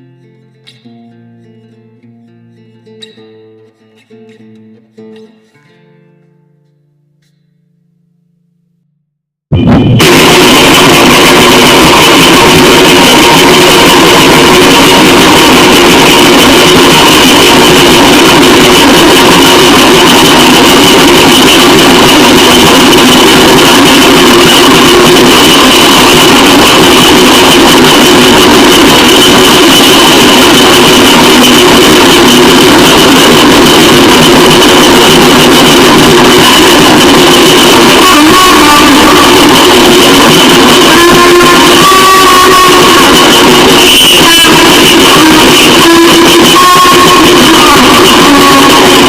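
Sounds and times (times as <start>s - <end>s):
droning tones: 9.5s - 49.0s
harsh distorted static noise: 9.5s - 49.0s.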